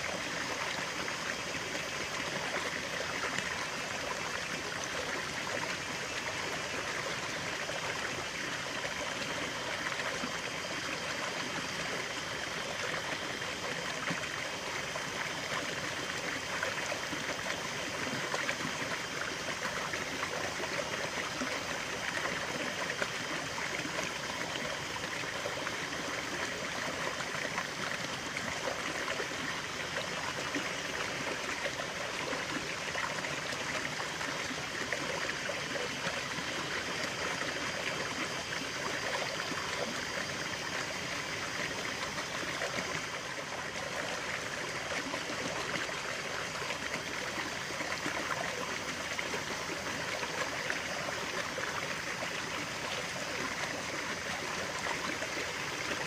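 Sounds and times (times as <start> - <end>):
stream of running water: 0.0 - 56.0.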